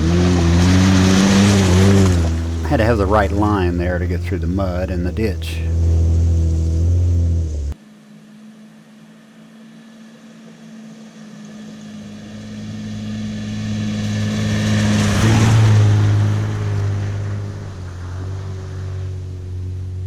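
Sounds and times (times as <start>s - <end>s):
car engine driving past: 0.0s - 7.8s, 11.1s - 20.0s.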